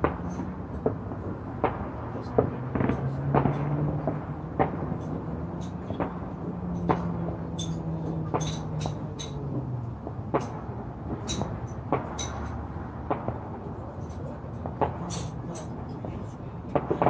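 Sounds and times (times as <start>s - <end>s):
distant fireworks popping: 0.0s - 17.0s.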